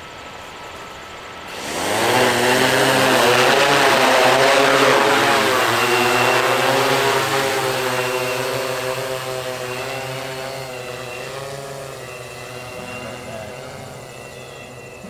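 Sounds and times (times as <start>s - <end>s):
quadcopter propellers buzzing: 1.5s - 15.0s.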